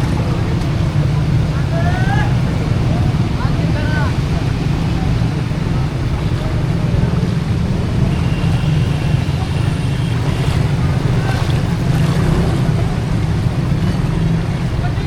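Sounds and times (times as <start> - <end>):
street ambience rumble: 0.0 - 15.0.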